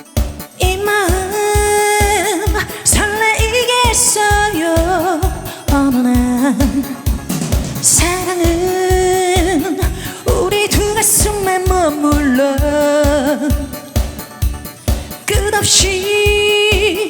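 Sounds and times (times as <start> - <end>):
backing track with kick-drum beat: 0.0 - 17.0
woman singing with vibrato: 0.5 - 14.3, 15.1 - 17.0.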